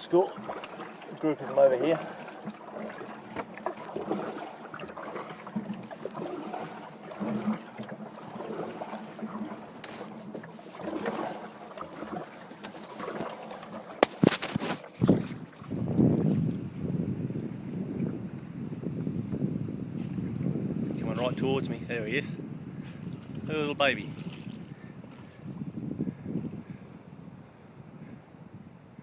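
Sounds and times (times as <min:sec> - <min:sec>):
water lapping against a kayak: 0:00.0 - 0:29.0.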